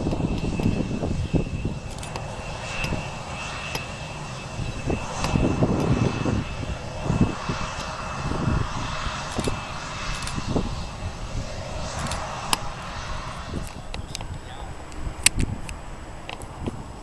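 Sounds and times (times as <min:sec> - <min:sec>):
jet engines whining and rumbling: 0:00.0 - 0:17.0.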